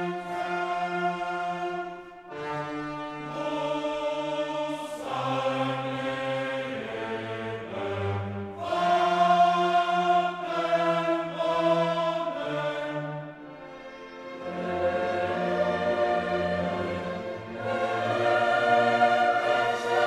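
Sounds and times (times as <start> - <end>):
choral music with orchestra: 0.0 - 20.0.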